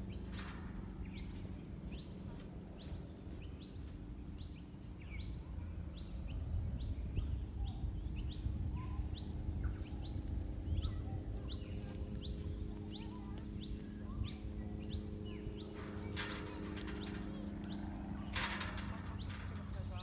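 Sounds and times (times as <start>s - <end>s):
bird chirping: 0.0s - 20.0s
low wind rumble: 0.0s - 20.0s.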